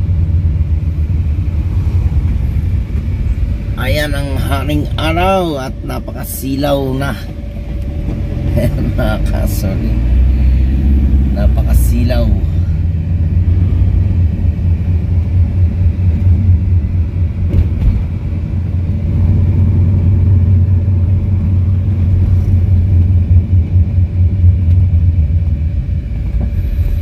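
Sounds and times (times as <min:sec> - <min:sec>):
car engine and tyre noise: 0:00.0 - 0:27.0.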